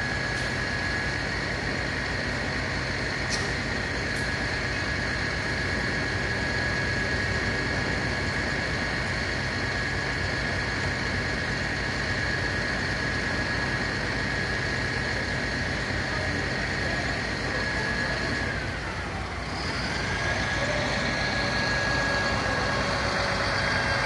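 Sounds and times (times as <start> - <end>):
fire truck engine running: 0.0 - 24.0.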